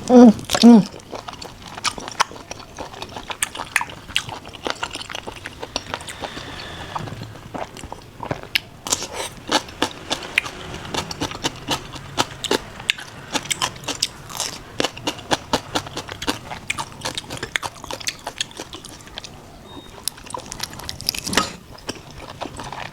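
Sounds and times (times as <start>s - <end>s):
chewing and crunching food: 0.0s - 22.9s.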